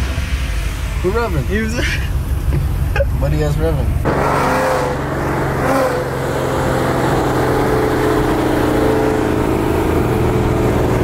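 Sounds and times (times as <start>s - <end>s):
car engine and exhaust droning: 0.0s - 11.0s.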